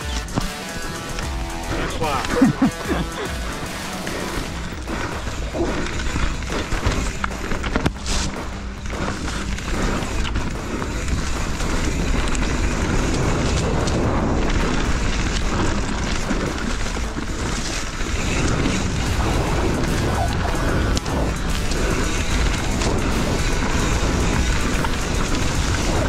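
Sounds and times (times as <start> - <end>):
mountain bike rattling on trail: 0.0 - 26.0.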